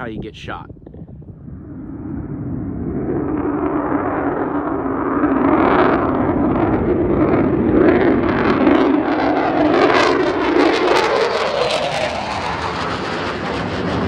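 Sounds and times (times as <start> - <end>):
fighter jet engine roaring: 1.2 - 14.0.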